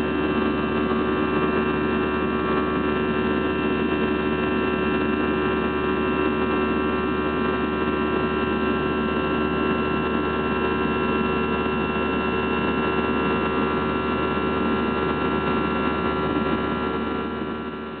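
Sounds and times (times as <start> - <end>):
aircraft cabin engine drone: 0.0 - 18.0.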